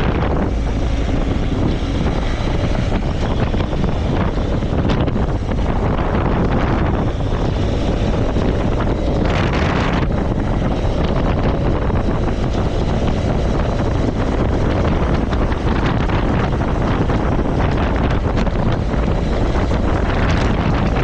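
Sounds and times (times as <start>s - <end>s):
motorcycle running: 0.0s - 21.0s
wind buffeting microphone: 0.0s - 21.0s.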